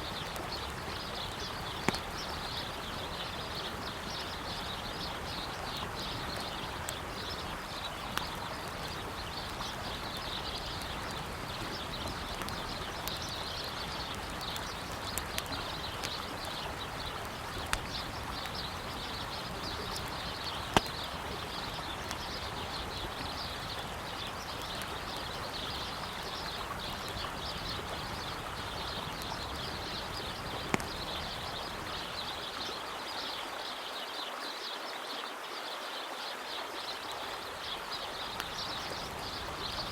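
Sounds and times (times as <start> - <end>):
campfire crackling and popping: 0.0 - 32.8, 37.3 - 39.9
river flowing: 0.0 - 39.9.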